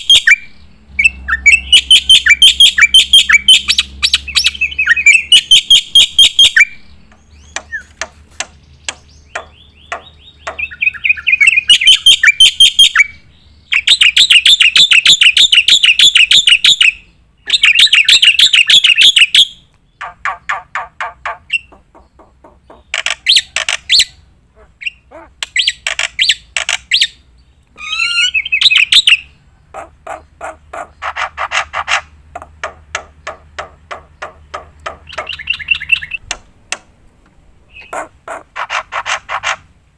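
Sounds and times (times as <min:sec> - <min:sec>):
bird harsh chattering song: 0:00.0 - 0:36.4, 0:37.7 - 0:39.7.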